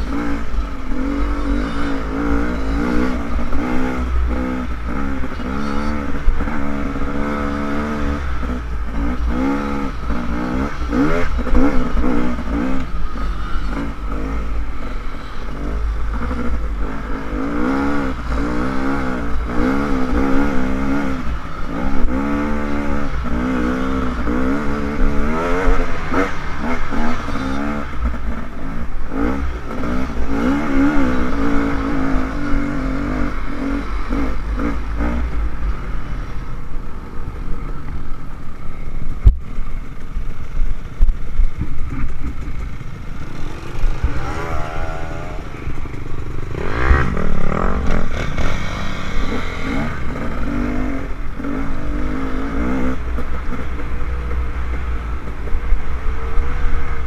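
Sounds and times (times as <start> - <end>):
dirt bike engine revving: 0.0 - 35.7, 41.8 - 54.0.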